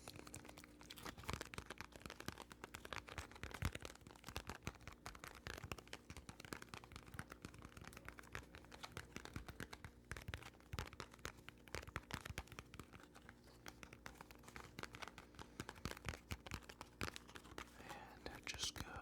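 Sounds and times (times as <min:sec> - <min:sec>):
crinkly clicks and taps: 0:00.0 - 0:19.0.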